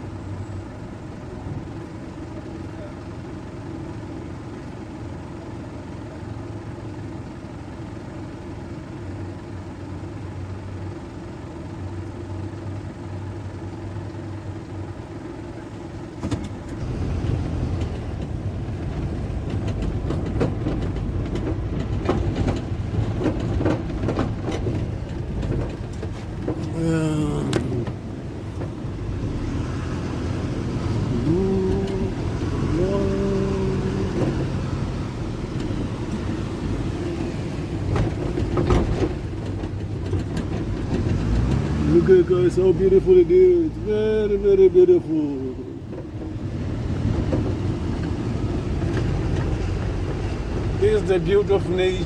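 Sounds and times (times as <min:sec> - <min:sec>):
car engine idling: 0:00.0 - 0:52.0
car pulling away: 0:00.0 - 0:52.0
road noise: 0:00.0 - 0:52.0.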